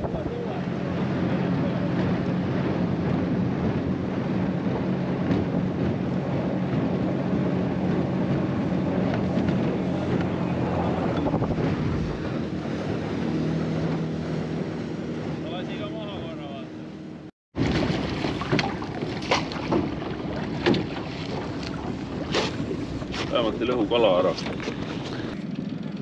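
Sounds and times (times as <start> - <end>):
wind buffeting microphone: 0.0 - 16.3, 17.6 - 26.0
water rushing past hull: 0.0 - 25.4
outboard motor running: 0.0 - 26.0.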